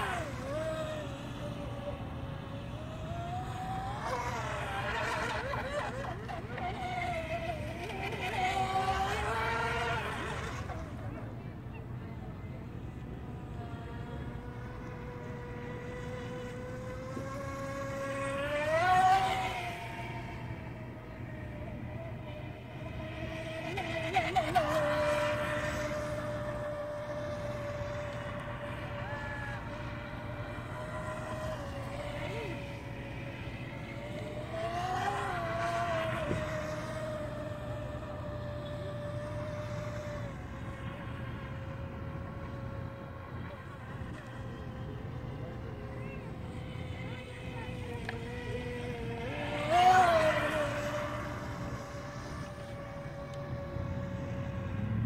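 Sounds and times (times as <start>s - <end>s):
electric motor whining: 0.0s - 55.0s
wind and water hiss: 0.0s - 55.0s.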